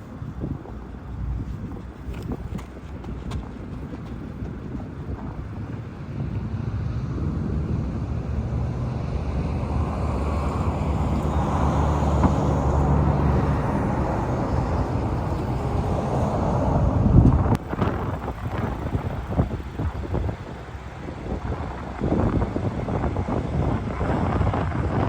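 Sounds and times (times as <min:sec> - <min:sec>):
vehicle engine hum: 0:00.0 - 0:25.0
wind on microphone: 0:00.0 - 0:25.0.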